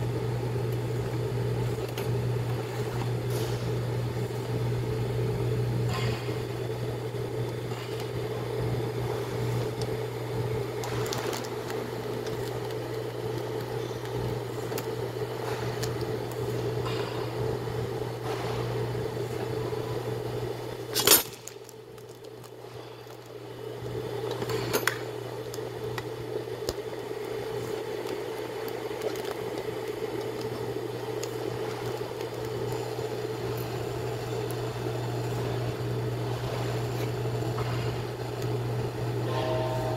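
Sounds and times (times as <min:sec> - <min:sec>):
broth simmering with crackles: 0:00.0 - 0:39.9
electric cooker humming: 0:00.0 - 0:39.9.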